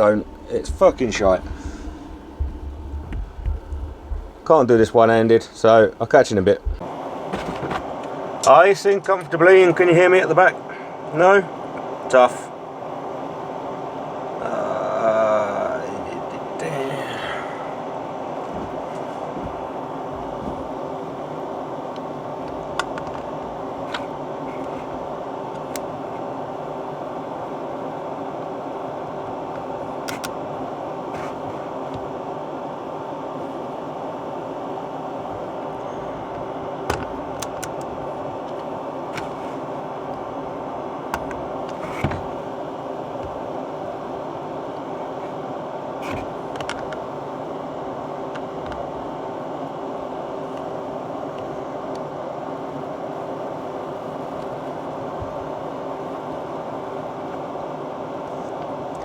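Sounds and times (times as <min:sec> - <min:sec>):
whirring fan hum: 0:00.0 - 0:59.0.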